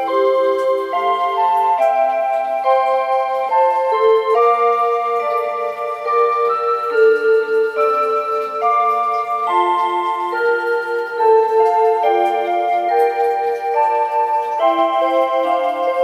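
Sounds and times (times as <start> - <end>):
clock chime melody: 0.0 - 16.0.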